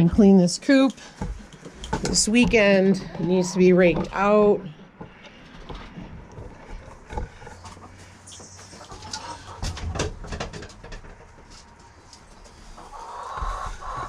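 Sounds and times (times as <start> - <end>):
knocks and rustling: 0.2 - 12.6
chickens clucking: 0.8 - 14.0.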